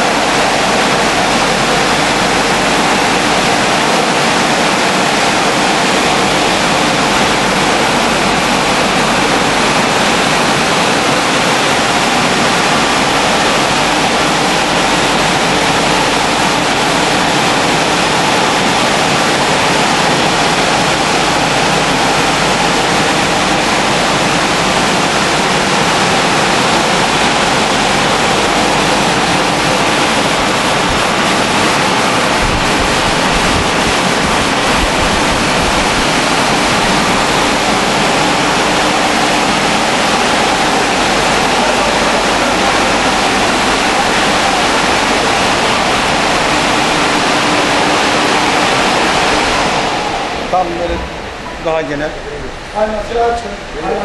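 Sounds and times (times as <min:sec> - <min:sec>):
car wash spraying water: 0:00.0 - 0:54.0.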